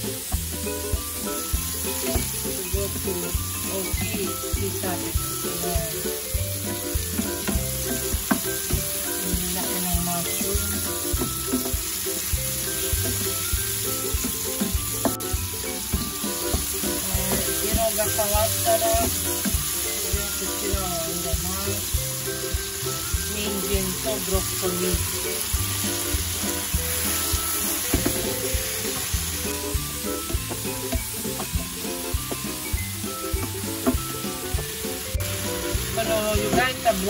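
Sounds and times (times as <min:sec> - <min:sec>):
vegetables sizzling in oil: 0:00.0 - 0:37.0.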